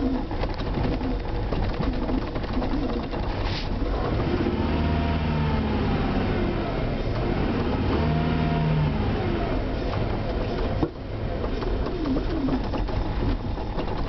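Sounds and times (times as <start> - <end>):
vehicle engine starting and revving: 2.2 - 14.0.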